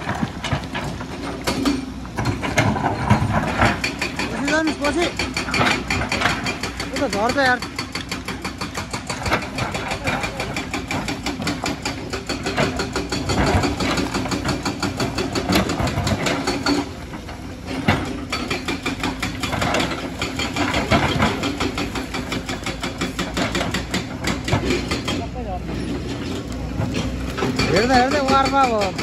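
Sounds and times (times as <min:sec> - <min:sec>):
excavator diesel engine clattering: 0:00.0 - 0:29.0.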